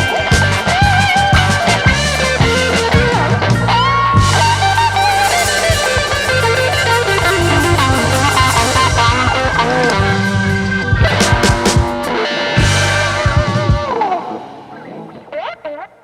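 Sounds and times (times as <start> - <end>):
bass line: 0.0 - 14.0
drums: 0.0 - 16.0
electric guitar lead melody: 0.0 - 16.0.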